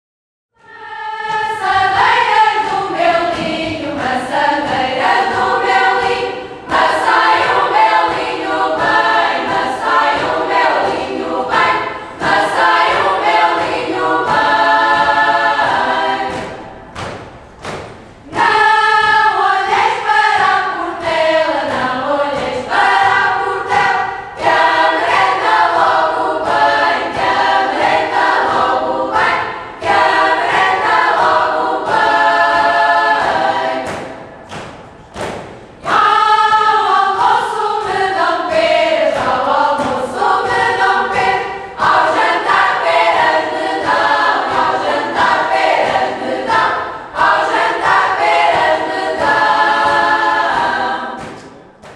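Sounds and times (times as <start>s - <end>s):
women's choir singing folk song: 0.6s - 51.9s.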